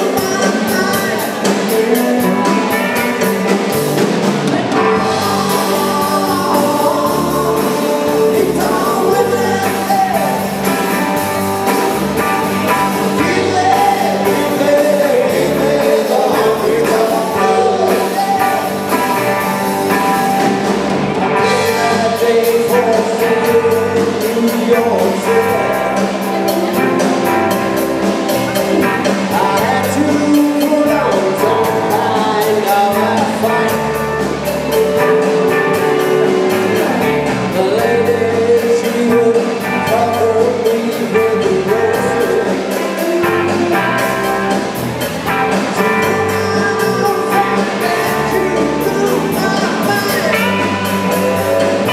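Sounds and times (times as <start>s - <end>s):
lead vocal singing: 0.0s - 51.9s
live rock band playing: 0.0s - 51.9s.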